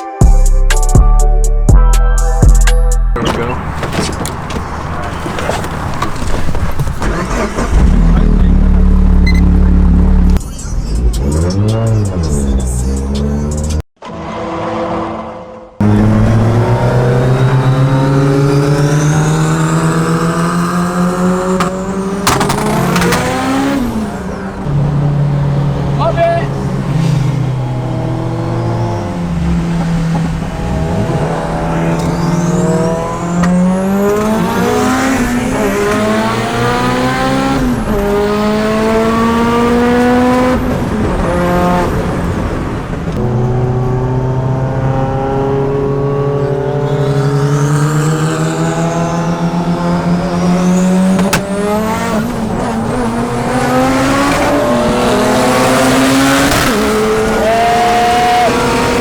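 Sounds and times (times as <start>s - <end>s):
car engine accelerating hard: 3.2s - 59.0s.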